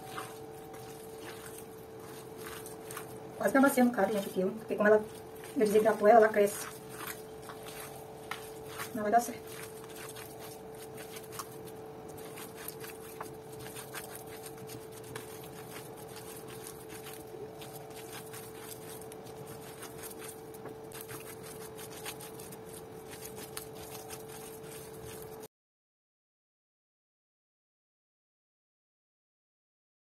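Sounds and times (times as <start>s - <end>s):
hands rubbing crumbly dough: 0.0s - 25.5s
steady hum: 0.0s - 25.5s.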